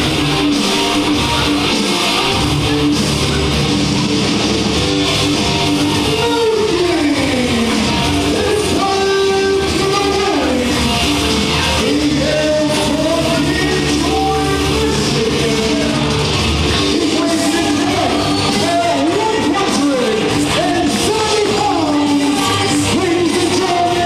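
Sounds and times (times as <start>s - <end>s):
guitar-driven rock music: 0.0s - 24.0s.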